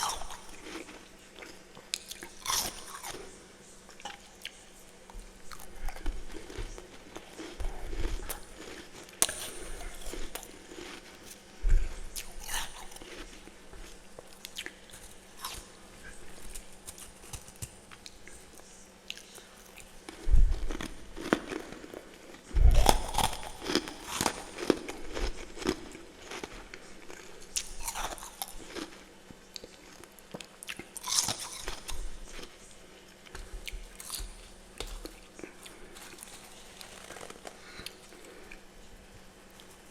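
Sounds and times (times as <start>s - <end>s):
crunching and chewing ice: 0.0s - 32.6s, 33.2s - 38.7s.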